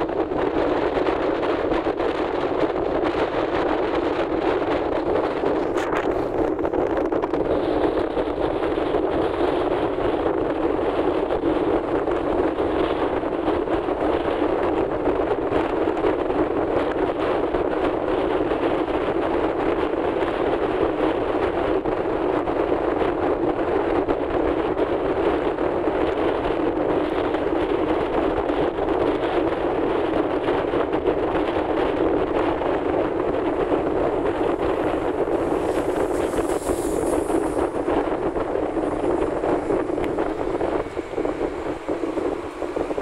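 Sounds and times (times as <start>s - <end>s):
road noise: 0.0s - 43.0s
rushing wind: 0.0s - 43.0s
wind buffeting microphone: 0.0s - 43.0s.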